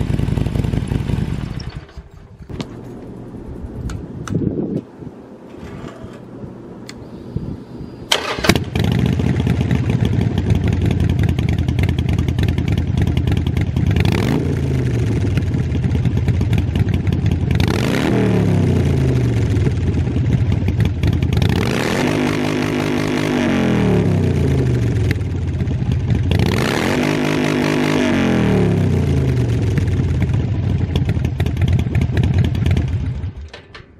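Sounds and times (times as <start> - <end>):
motorcycle engine idling and revving: 0.0 - 4.6, 7.4 - 33.9.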